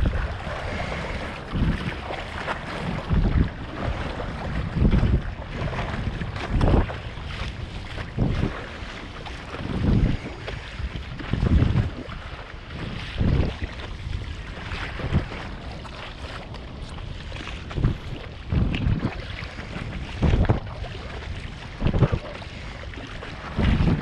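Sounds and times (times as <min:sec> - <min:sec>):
choppy sea water rushing: 0:00.0 - 0:24.0
strong wind buffeting microphone: 0:00.0 - 0:24.0.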